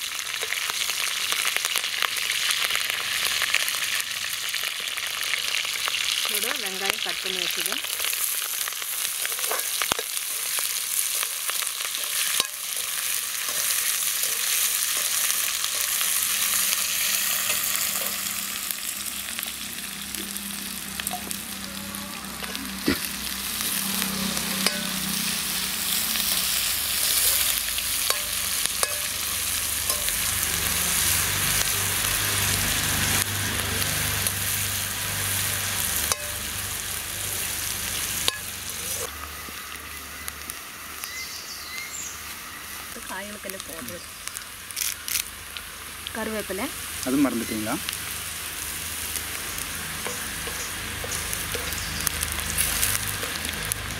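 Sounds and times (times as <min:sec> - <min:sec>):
onions sizzling in oil: 0:00.0 - 0:53.9.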